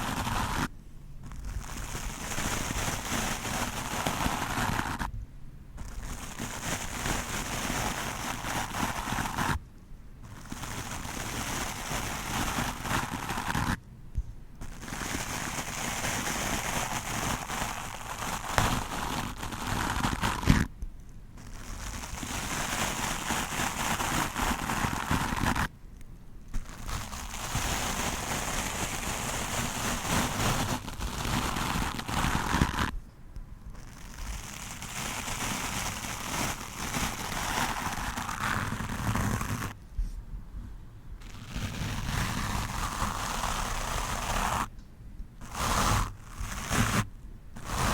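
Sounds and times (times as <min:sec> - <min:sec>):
brush scrubbing microphone: 0:00.0 - 0:05.1, 0:05.8 - 0:09.6, 0:10.2 - 0:13.8, 0:14.6 - 0:20.8, 0:21.4 - 0:25.7, 0:26.5 - 0:33.0, 0:33.7 - 0:40.2, 0:41.2 - 0:44.7, 0:45.4 - 0:47.9.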